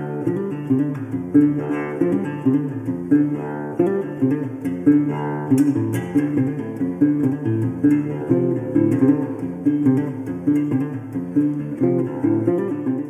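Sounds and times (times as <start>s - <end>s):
guitar plucked notes: 0.0s - 13.0s.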